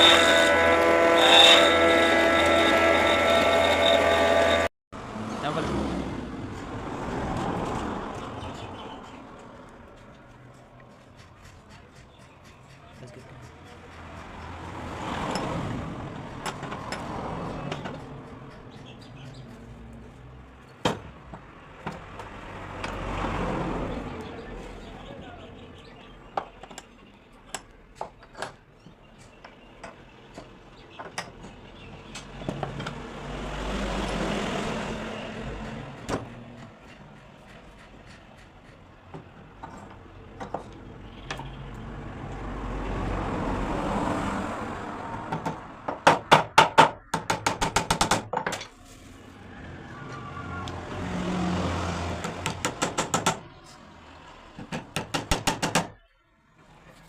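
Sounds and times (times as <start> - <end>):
vehicles passing by: 0.0 - 57.0.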